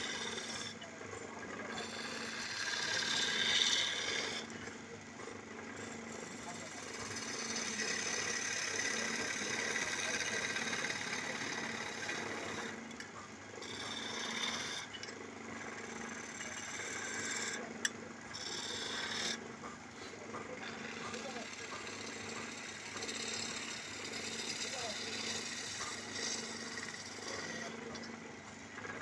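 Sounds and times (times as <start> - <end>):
chisel scraping spinning wood: 0.0 - 29.0
wood lathe hum: 0.0 - 29.0.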